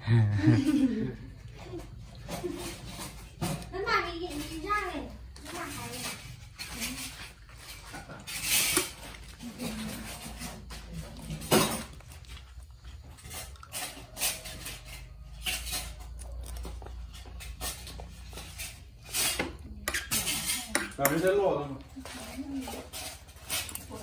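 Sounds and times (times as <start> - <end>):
utensils clinking against bowls: 1.5 - 24.0.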